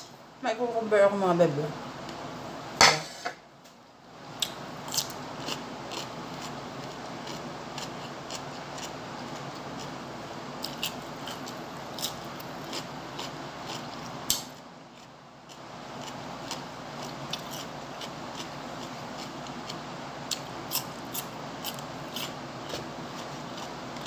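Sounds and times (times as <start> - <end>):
person chewing crunchy food: 4.4 - 24.0.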